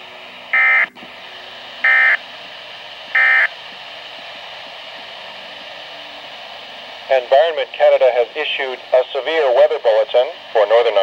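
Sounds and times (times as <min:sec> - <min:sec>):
radio hiss: 0:00.5 - 0:11.0.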